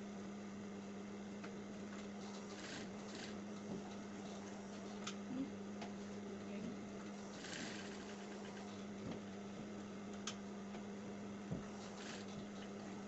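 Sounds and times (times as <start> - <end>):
sewing machine motor hum: 1.4 - 13.0.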